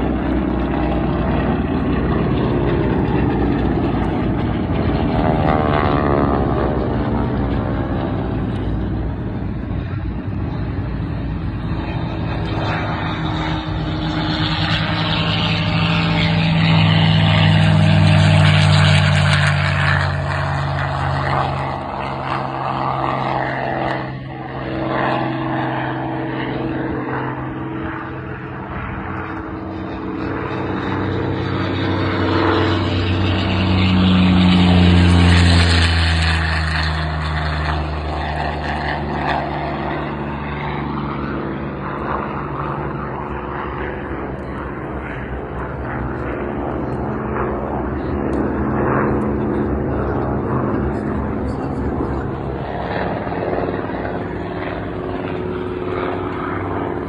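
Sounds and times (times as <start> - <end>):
propeller aircraft engine drone: 0.0 - 57.0.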